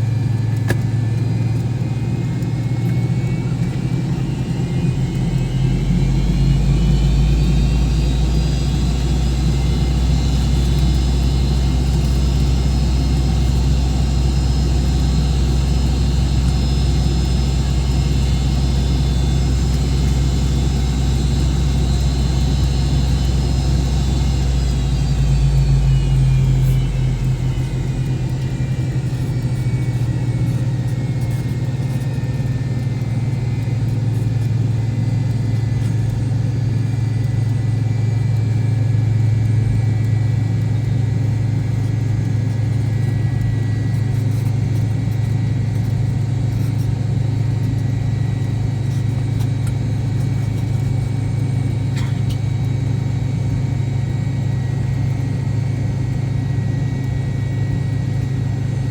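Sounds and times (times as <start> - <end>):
deep engine rumble: 0.0 - 58.9
jet engine whine from cabin: 0.0 - 58.9.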